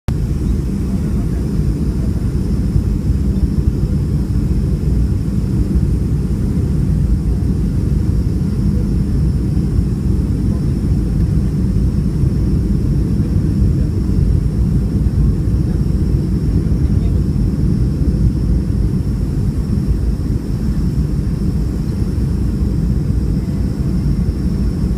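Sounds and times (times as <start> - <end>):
airliner engine rumble: 0.1 - 24.9
faint high whine: 0.1 - 24.9.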